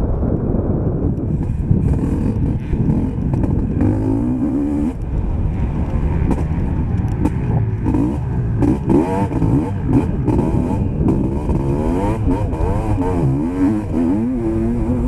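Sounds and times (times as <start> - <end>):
constant rush of noise: 0.0 - 15.0
motocross bike engine revving: 1.8 - 15.0.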